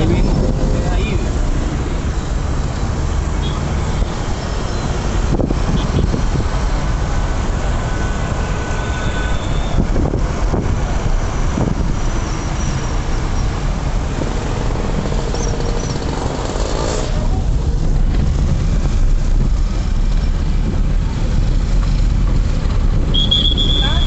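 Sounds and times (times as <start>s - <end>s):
motor vehicle running: 0.0s - 24.0s.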